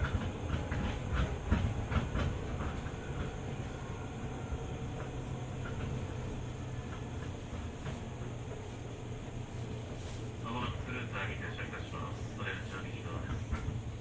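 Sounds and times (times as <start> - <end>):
train rumbling: 0.0 - 14.0
train wheels clacking on track: 0.0 - 14.0.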